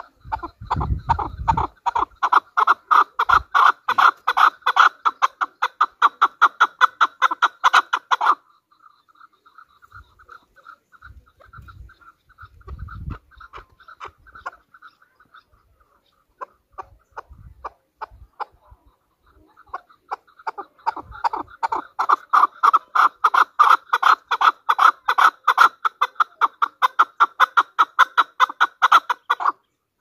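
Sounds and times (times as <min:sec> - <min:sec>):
partridge calling: 0:00.0 - 0:30.0.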